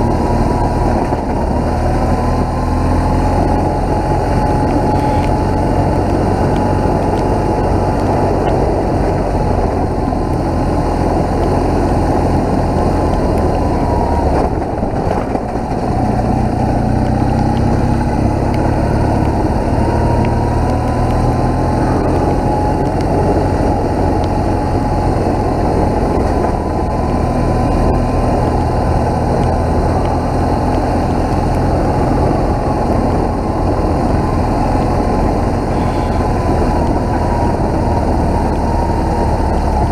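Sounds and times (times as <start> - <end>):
motorcycle engine running: 0.0 - 39.9
riding wind rush: 0.0 - 39.9.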